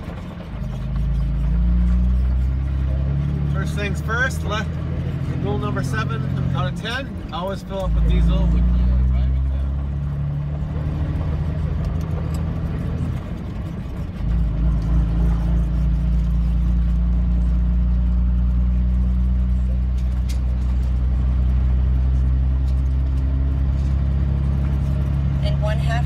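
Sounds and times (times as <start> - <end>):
truck engine drone: 0.0 - 26.0
tyre and road noise: 0.0 - 26.0.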